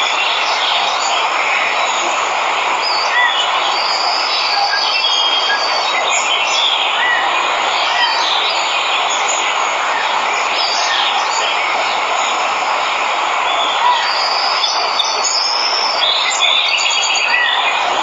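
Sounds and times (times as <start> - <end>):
birds chirping: 0.0 - 18.0
waterfall rushing: 0.0 - 18.0.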